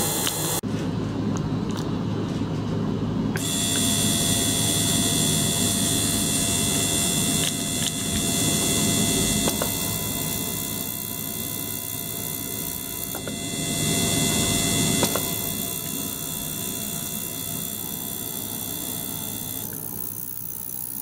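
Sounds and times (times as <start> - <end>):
high hiss with whining tones: 0.0 - 0.6, 3.4 - 21.0
pump and water churning hum: 0.0 - 21.0.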